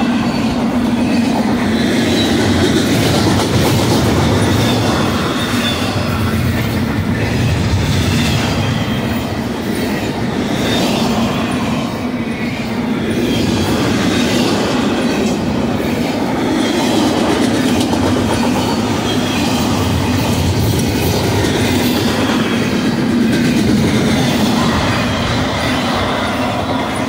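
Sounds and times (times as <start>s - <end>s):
wheels clickety-clack: 0.0s - 11.8s, 12.4s - 27.0s
freight train rumbling past: 0.0s - 27.0s.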